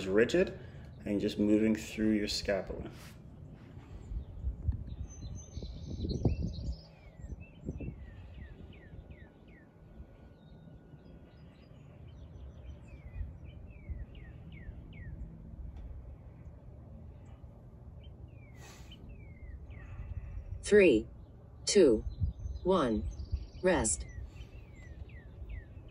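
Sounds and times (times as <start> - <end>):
birds chirping: 0.0 - 25.9
low rumble: 0.0 - 25.9.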